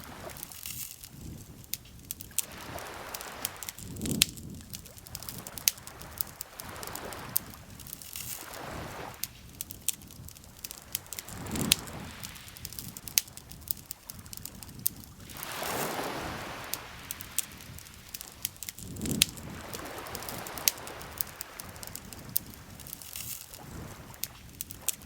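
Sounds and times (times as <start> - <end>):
campfire crackling and popping: 0.0 - 25.0
lake water lapping: 0.0 - 25.0.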